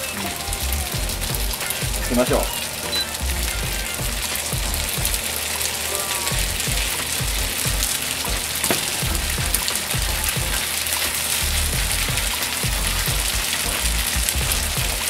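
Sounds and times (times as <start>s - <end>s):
spaghetti sizzling in frying pan: 0.0s - 15.0s.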